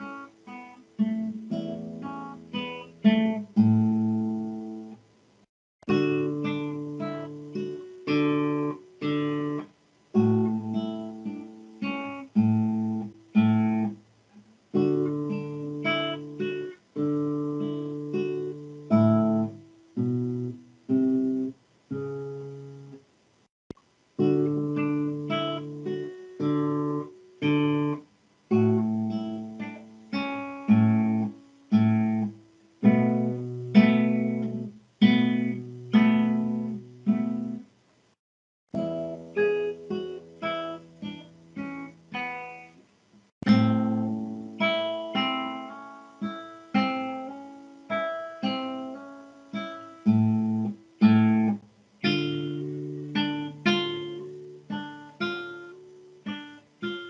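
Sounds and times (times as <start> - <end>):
classical guitar fingerstyle: 0.0 - 5.0, 5.8 - 23.1, 23.8 - 37.7, 38.7 - 57.0.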